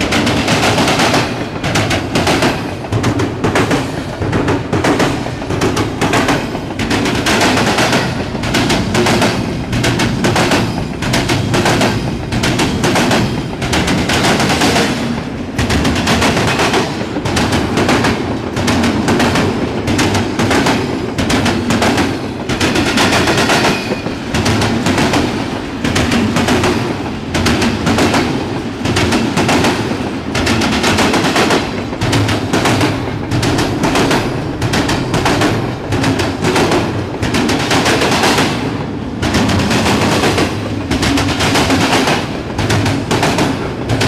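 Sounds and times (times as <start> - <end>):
train wheels clattering over rail joints: 0.0 - 44.0.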